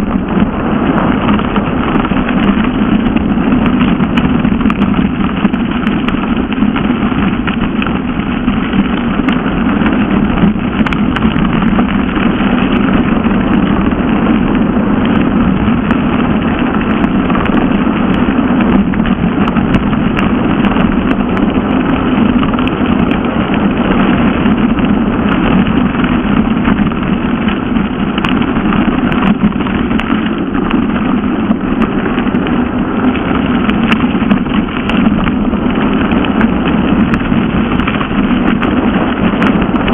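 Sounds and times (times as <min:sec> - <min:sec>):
tyre and wind rush: 0:00.0 - 0:39.9.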